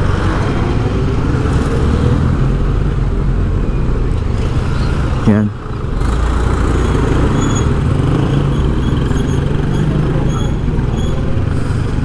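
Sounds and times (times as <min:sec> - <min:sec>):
road traffic noise: 0:00.0 - 0:12.0
vehicle engines running: 0:00.0 - 0:12.0.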